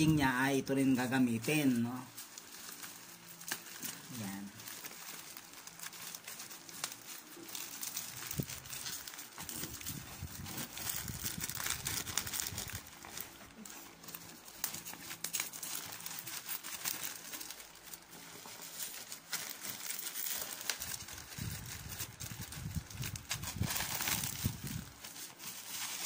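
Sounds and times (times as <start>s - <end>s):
plastic pouch crinkling: 0.0s - 26.0s.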